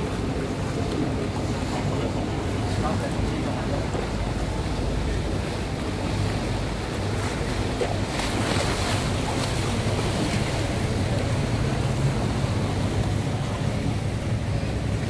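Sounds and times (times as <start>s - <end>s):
boat engine hum: 0.0s - 15.0s
canal water washing: 0.0s - 15.0s.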